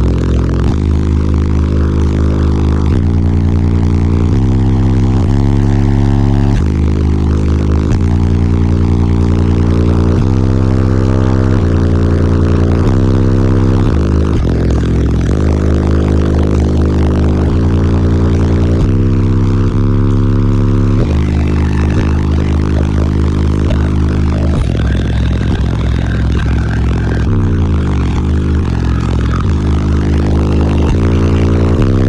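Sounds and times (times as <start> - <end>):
deep bass notes from subwoofers: 0.0 - 32.0.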